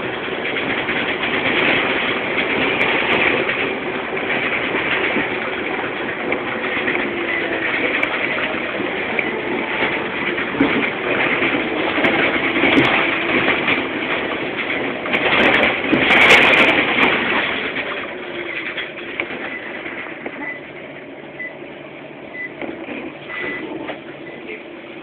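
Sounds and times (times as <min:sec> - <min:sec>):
knocks and rattles: 0:00.0 - 0:21.2
bus engine and road noise: 0:00.0 - 0:25.0.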